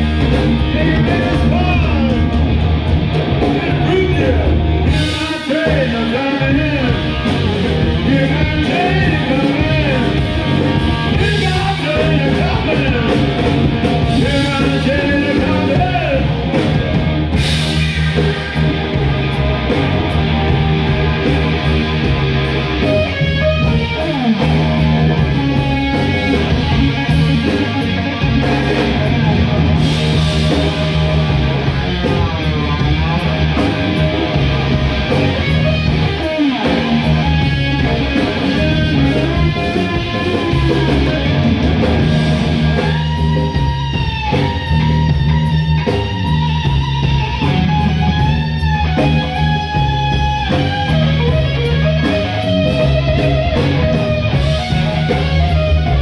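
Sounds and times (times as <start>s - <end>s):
bass guitar: 0.0s - 56.0s
drums: 0.0s - 56.0s
electric guitar lead: 0.0s - 56.0s.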